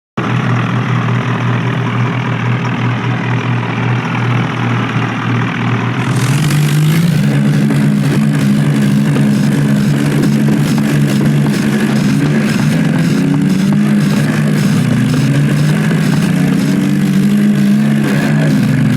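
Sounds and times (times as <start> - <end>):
diesel tractor engines under load: 0.2 - 18.9.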